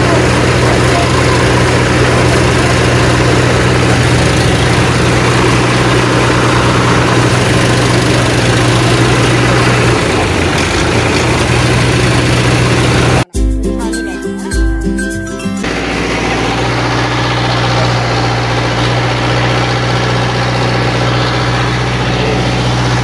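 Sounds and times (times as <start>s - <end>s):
heavy engine idling: 0.0s - 13.3s, 15.6s - 23.0s.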